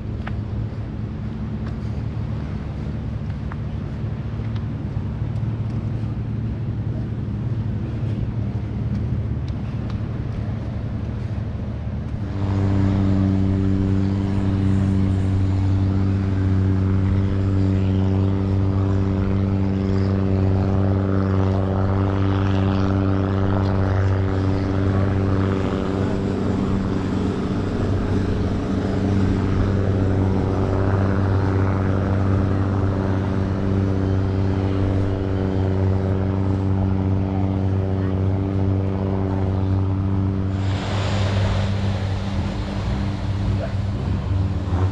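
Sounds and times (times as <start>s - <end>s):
engine humming steadily: 0.0s - 44.9s
low wind rumble: 0.0s - 44.9s.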